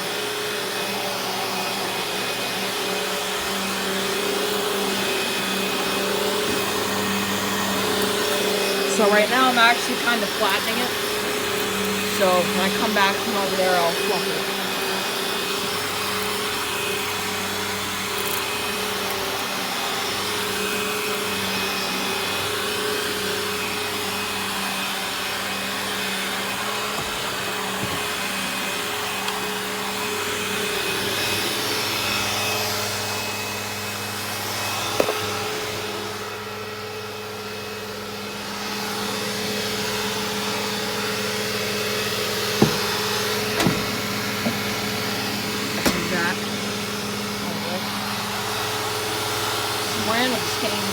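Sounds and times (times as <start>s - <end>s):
upright vacuum cleaner running: 0.0s - 50.9s.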